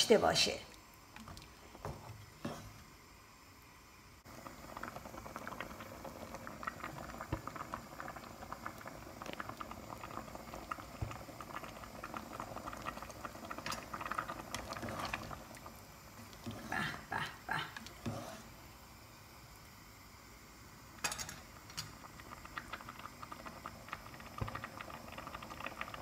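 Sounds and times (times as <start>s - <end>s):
soup bubbling: 0.1s - 26.0s.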